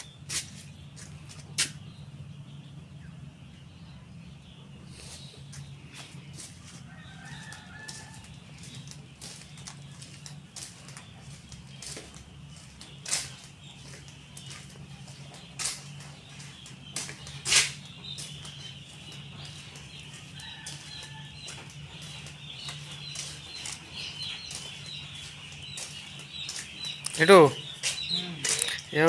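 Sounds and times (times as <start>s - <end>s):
chicks peeping: 0.0s - 29.0s
steady low hum: 0.0s - 29.0s.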